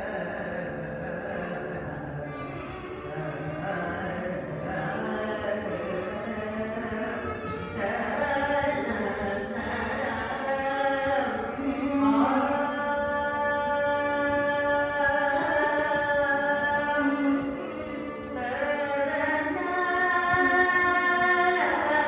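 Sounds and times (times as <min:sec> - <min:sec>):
violin: 0:00.0 - 0:22.0
woman singing: 0:00.0 - 0:22.0.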